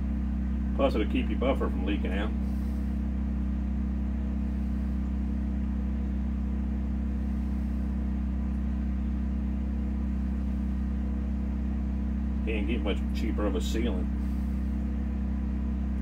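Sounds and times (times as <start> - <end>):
heater humming: 0.0 - 16.0.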